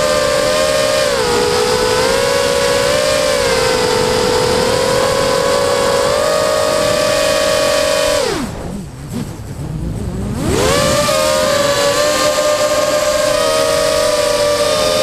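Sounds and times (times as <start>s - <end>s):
quadcopter propellers whining: 0.0s - 15.0s.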